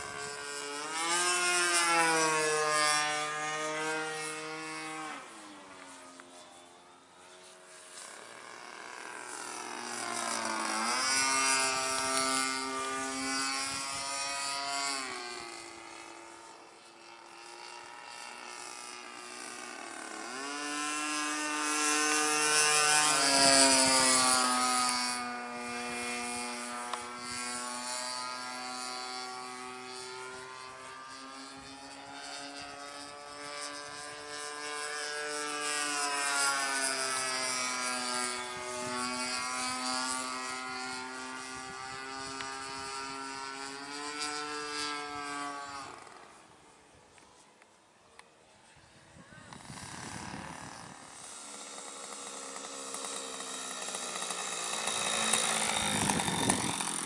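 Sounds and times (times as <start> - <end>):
model plane engine buzzing: 0.0 - 57.0.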